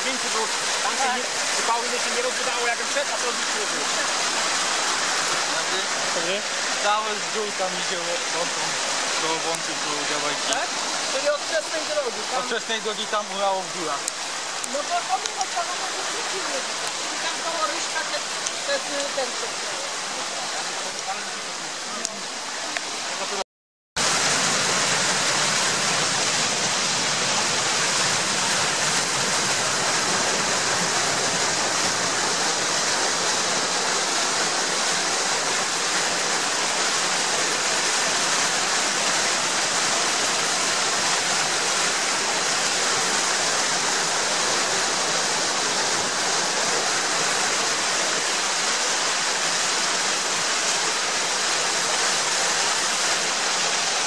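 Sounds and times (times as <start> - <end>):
water gushing and splashing: 0.0 - 23.4, 24.0 - 54.0.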